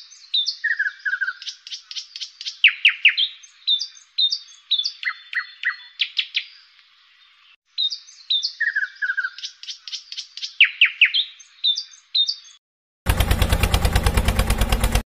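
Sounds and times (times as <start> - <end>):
songbirds chirping: 0.0 - 12.6.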